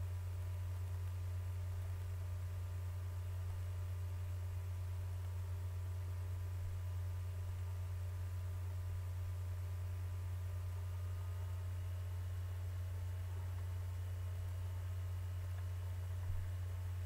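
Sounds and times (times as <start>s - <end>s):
steady low hum with tones: 0.0s - 17.0s.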